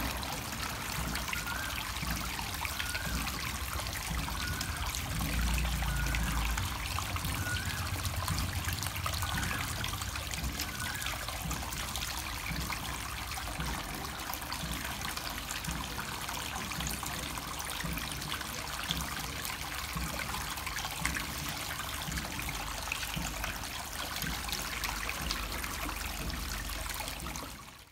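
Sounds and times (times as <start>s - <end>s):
water trickling and splashing: 0.0s - 27.9s.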